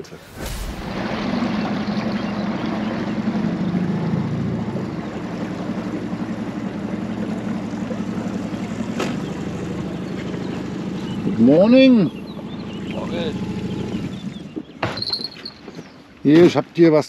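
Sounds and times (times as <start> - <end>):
water and wind noise: 0.0 - 17.0
outboard motor running: 0.9 - 16.6.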